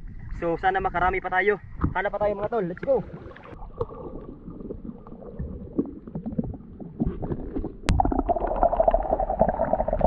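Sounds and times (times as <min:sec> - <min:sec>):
low water rumble: 0:00.0 - 0:10.0.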